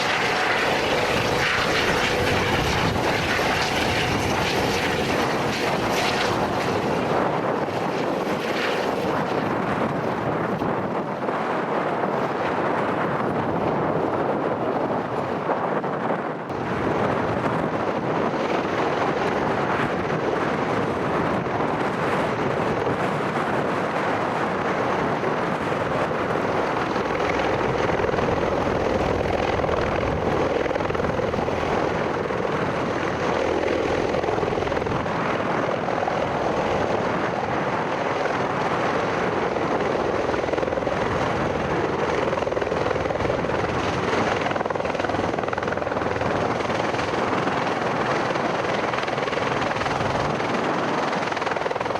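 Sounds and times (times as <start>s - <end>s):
aircraft rotors droning: 0.0s - 51.9s.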